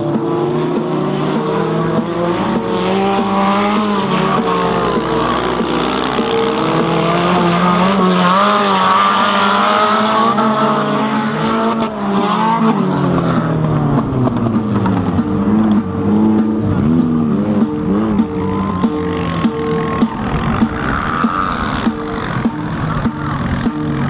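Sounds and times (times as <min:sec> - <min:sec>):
race car engines revving: 0:00.0 - 0:24.0
repetitive background music: 0:00.0 - 0:24.0
tyres skidding: 0:00.0 - 0:24.0.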